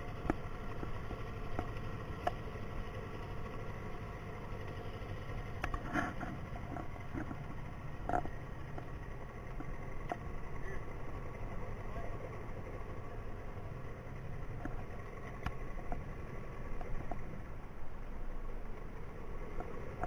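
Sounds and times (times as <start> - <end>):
boat motor idling: 0.0 - 20.0.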